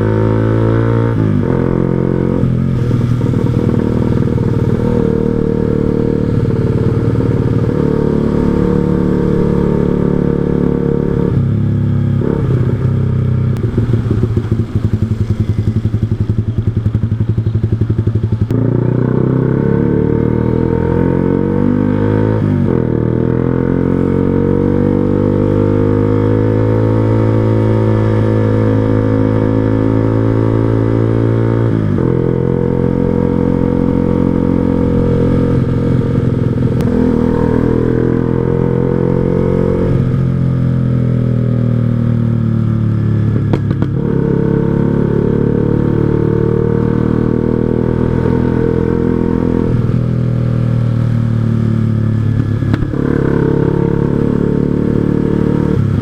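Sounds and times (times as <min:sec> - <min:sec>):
motorcycle engine revving while riding: 0:00.0 - 0:56.0.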